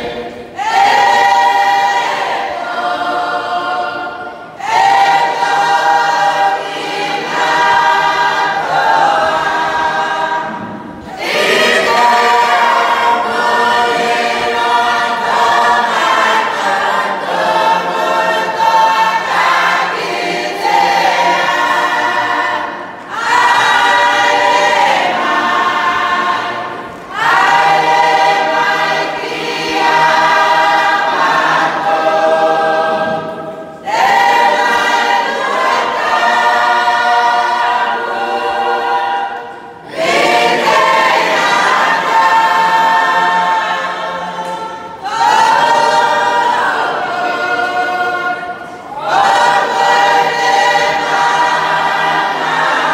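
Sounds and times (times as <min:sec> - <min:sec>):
congregation singing a hymn: 0:00.0 - 0:52.9.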